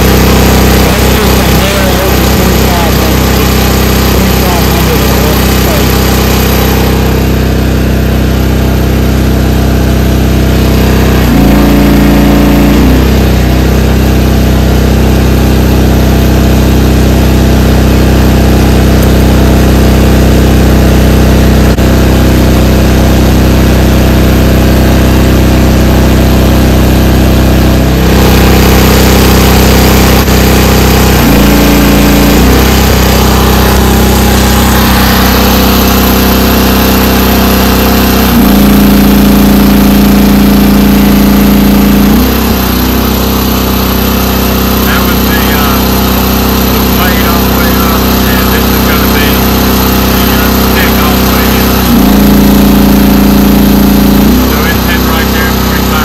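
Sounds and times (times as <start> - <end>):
engine labouring under hydraulic load: 0.0 - 56.0
excavator engine running: 0.0 - 56.0.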